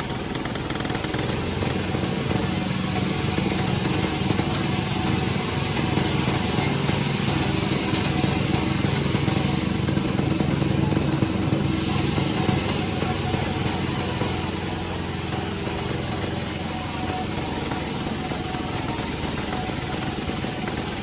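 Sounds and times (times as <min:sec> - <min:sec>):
sawmill engine pulsing: 0:00.0 - 0:21.0.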